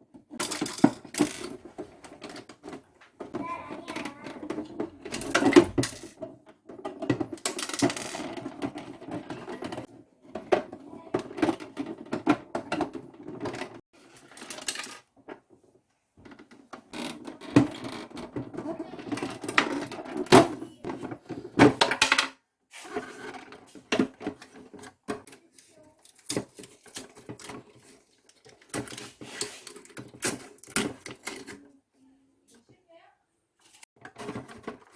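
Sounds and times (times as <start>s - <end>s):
plastic parts clicking and rattling: 0.1s - 15.5s, 16.2s - 22.4s, 23.0s - 31.8s, 34.0s - 34.9s.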